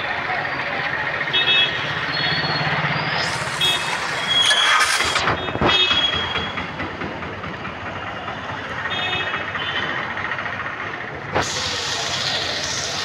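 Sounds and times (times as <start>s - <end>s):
street and vehicle noise: 0.0s - 13.0s.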